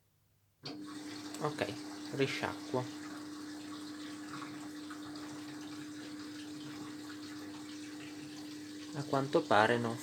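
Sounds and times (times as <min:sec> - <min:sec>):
washing machine hum: 0:00.6 - 0:10.0
water rushing into washing machine: 0:00.6 - 0:10.0.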